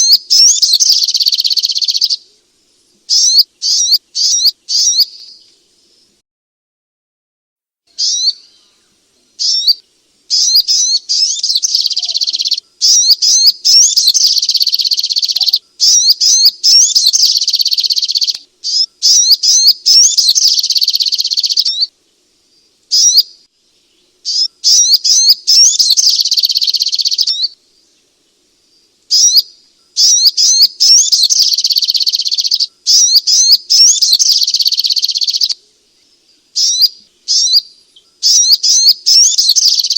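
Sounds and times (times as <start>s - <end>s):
bird rapid high chirps: 0.0s - 2.2s, 3.1s - 5.5s, 8.0s - 8.8s, 9.4s - 21.9s, 22.6s - 23.5s, 24.1s - 27.6s, 29.1s - 35.6s, 36.2s - 39.9s.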